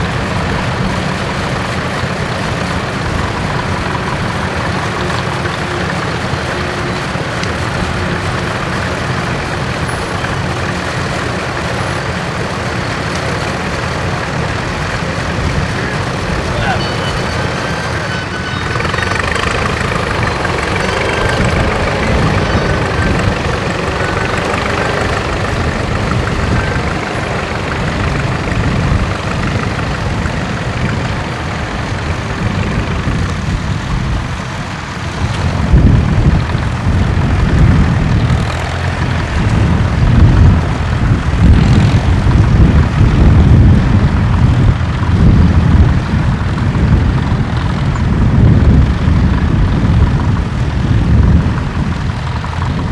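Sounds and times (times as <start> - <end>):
heavy uneven low rumble: 0.0 - 52.9
tractor engine running: 0.0 - 52.9.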